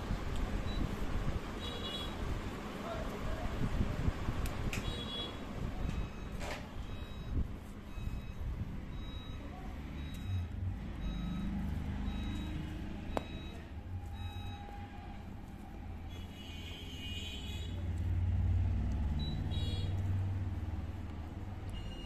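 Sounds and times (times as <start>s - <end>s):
engine rumble: 0.0s - 22.0s.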